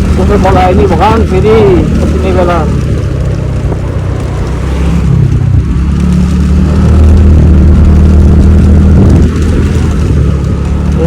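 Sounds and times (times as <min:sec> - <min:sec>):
scooter engine rumbling: 0:00.0 - 0:11.0.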